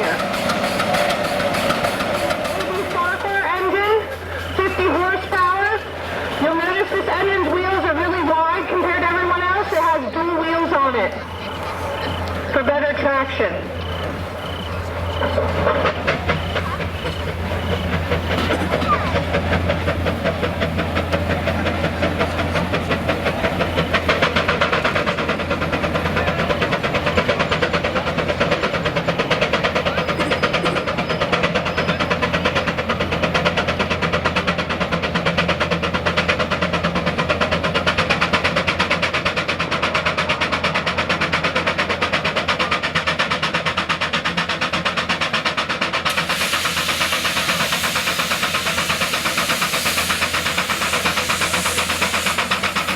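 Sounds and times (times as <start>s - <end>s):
steam engine exhaust chuffing: 0.0s - 52.9s.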